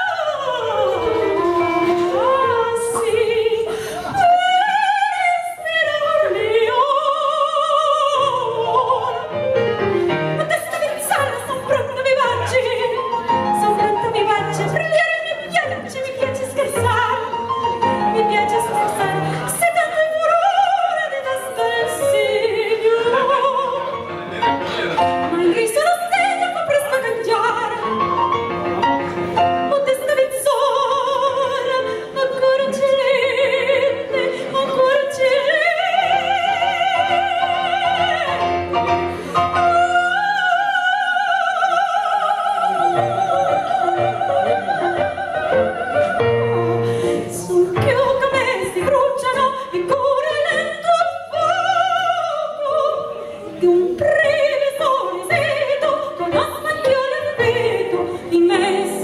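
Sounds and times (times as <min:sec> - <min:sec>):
woman singing opera: 0:00.0 - 0:24.1, 0:25.3 - 0:28.3, 0:29.6 - 0:59.0.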